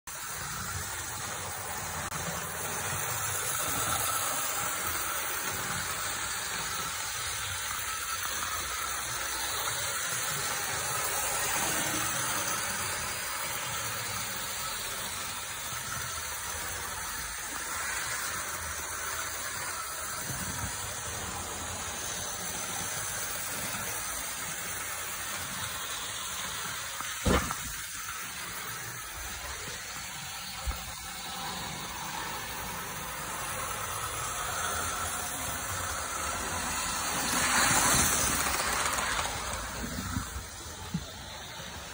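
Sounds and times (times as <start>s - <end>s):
model train motor whirring: 0.1s - 41.9s.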